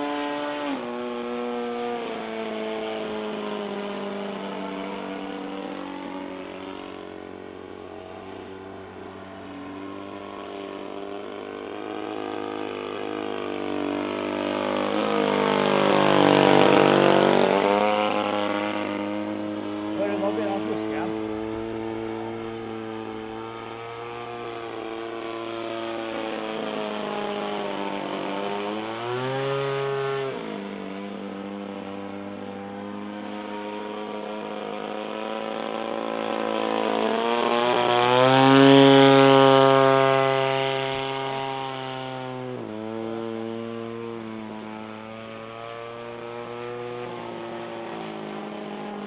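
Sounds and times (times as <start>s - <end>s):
model plane engine buzz: 0.0s - 49.0s.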